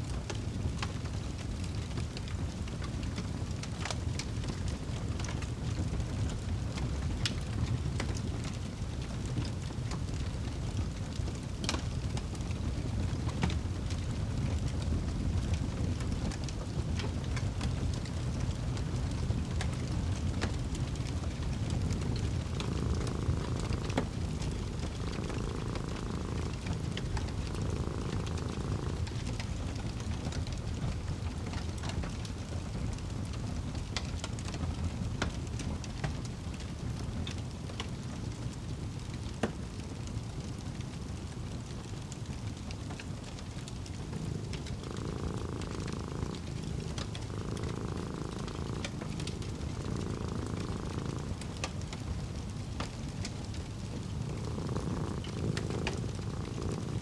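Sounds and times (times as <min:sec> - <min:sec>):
cat purring: 0:00.0 - 0:57.0
fireplace crackling and popping: 0:00.0 - 0:57.0.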